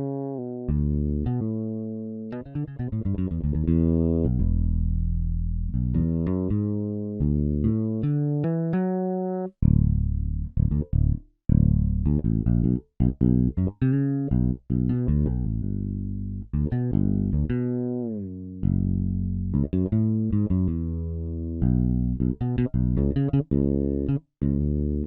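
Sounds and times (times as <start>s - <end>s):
fretless electric bass notes: 0.0s - 25.0s.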